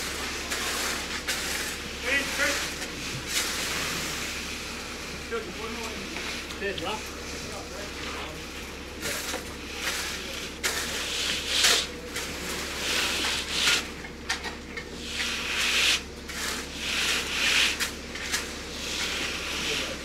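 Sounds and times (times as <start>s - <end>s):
tools scraping wet concrete: 0.0s - 20.0s.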